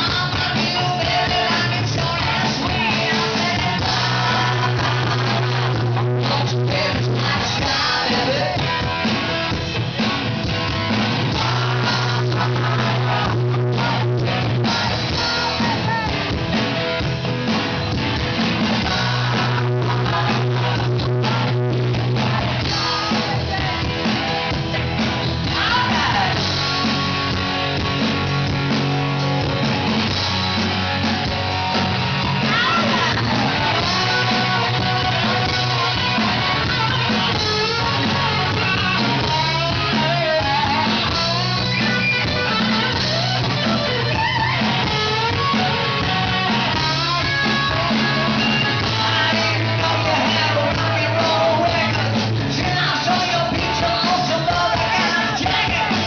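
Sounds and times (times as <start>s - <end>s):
lead singer singing: 0.0s - 9.3s, 11.2s - 16.4s, 18.6s - 27.4s, 32.1s - 56.0s
live hard rock band: 0.0s - 56.0s.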